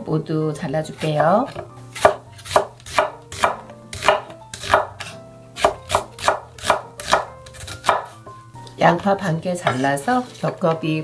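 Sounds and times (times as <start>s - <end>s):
knife slicing onion on wooden board: 0.8s - 8.4s, 9.0s - 10.6s.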